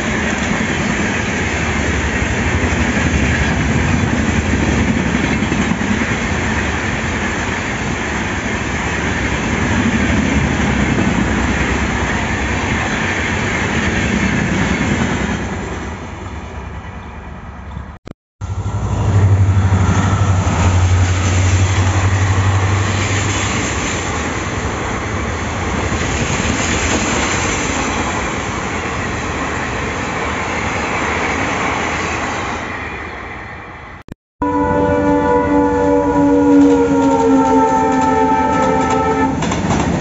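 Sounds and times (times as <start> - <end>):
passenger coaches rattling past: 0.0 - 17.7, 18.4 - 40.0
diesel locomotive engine hum: 0.0 - 30.7, 33.8 - 40.0.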